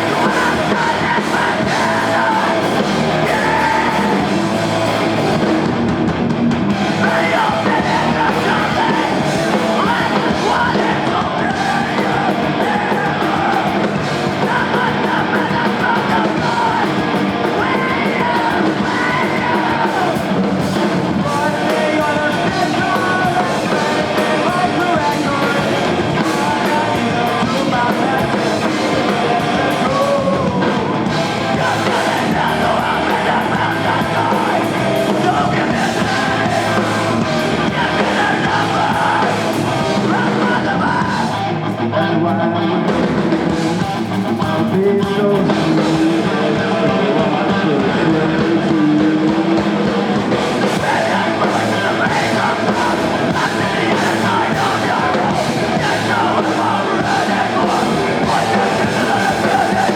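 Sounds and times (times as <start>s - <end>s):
person singing: 0.0s - 5.6s, 6.7s - 59.9s
drums: 0.0s - 59.9s
electric guitar: 0.0s - 59.9s.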